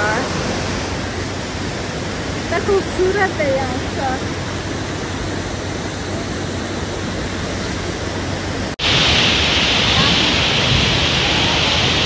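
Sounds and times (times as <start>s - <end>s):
hissy rush of water close by: 0.0s - 12.0s
mountain stream rushing: 0.0s - 12.0s.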